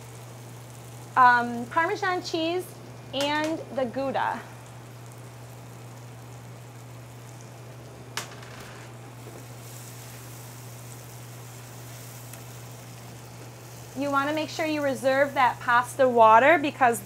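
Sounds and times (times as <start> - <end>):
sauce simmering and sizzling: 0.0 - 8.2, 8.9 - 17.0
steady low hum: 0.0 - 17.0.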